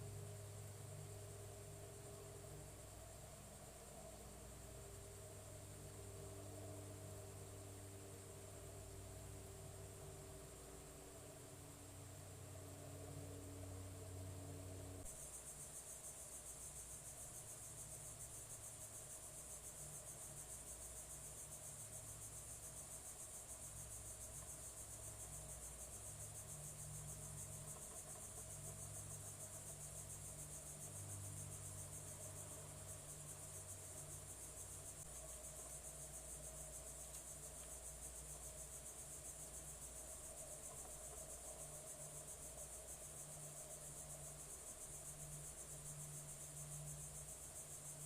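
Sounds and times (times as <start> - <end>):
crickets trilling: 0.0 - 48.0
faint low hum: 0.0 - 48.0.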